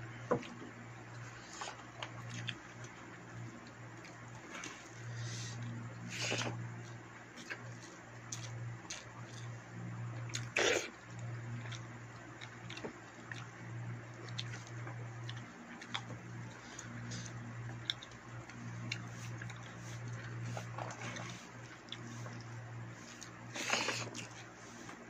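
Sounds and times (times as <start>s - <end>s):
steady low hum: 0.0s - 25.0s
person chewing: 1.1s - 9.6s, 10.3s - 24.9s.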